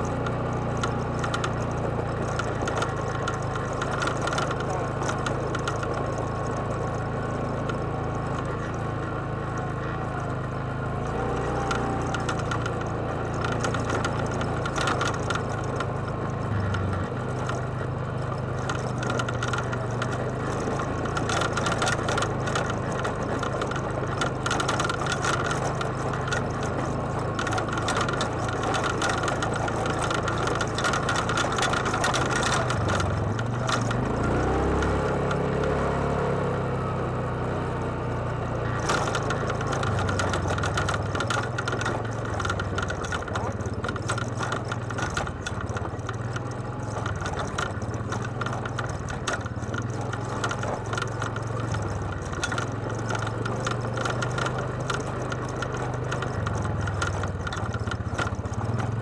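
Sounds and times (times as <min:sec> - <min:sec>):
tyres crunching over gravel: 0:00.0 - 0:35.6, 0:38.5 - 0:59.0
atv engine running: 0:00.0 - 0:59.0.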